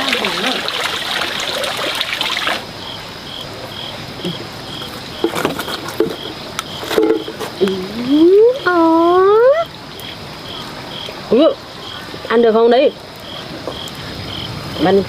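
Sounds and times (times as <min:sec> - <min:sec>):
running water: 0:00.0 - 0:15.0
cricket chirping: 0:01.9 - 0:15.0.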